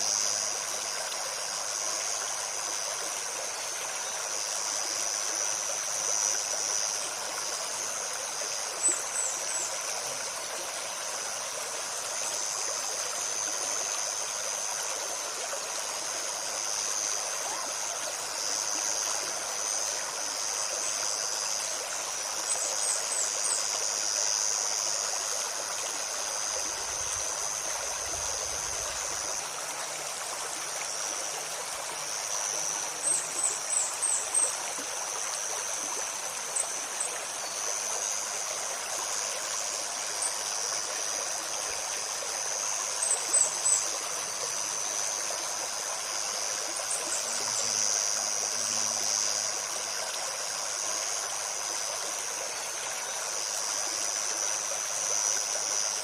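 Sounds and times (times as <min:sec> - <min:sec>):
high insect buzz: 0:00.0 - 0:56.0
stream babbling over stones: 0:00.0 - 0:56.0.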